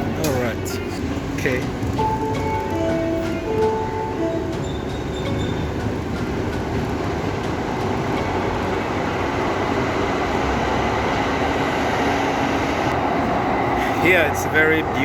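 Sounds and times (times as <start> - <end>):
light-rail train rumbling: 0.0 - 15.0.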